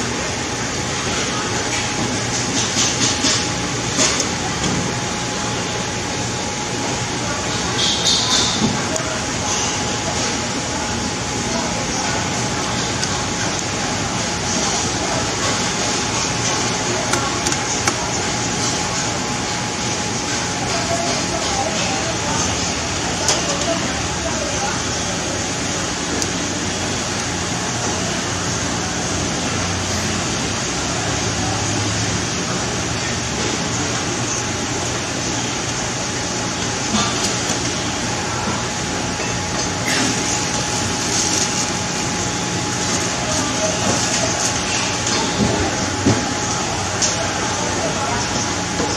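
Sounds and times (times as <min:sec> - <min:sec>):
noisy background din: 0:00.0 - 0:48.9.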